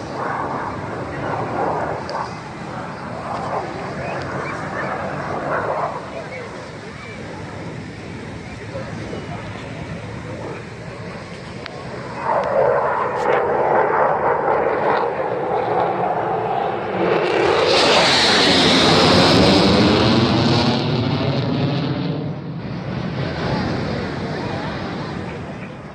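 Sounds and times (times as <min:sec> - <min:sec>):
fighter jet passing overhead: 0:00.0 - 0:25.9.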